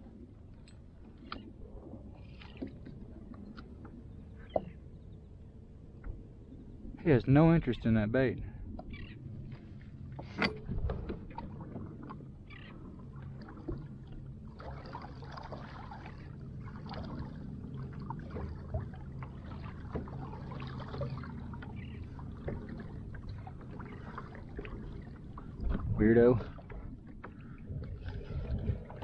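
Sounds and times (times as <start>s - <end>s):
knocks and clicks from boat: 0.0s - 6.5s, 8.5s - 29.0s
waves lapping against hull: 0.0s - 29.0s.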